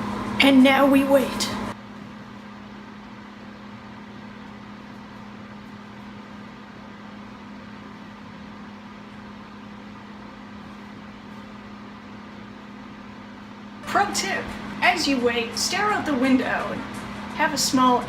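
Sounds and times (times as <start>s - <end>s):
microwave oven humming: 0.0s - 18.0s.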